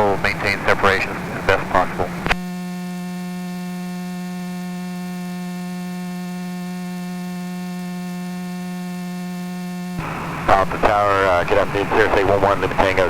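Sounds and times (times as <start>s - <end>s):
low electrical buzz: 0.0s - 13.0s.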